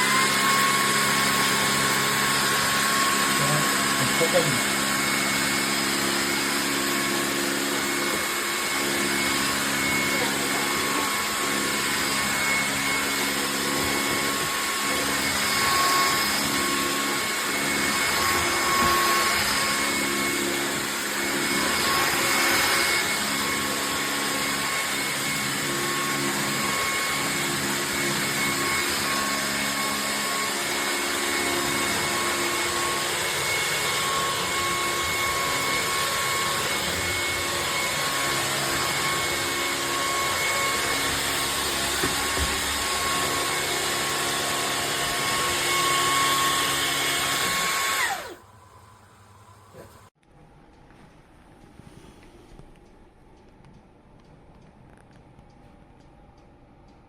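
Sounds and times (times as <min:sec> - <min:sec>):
vacuum cleaner running: 0:00.0 - 0:50.2.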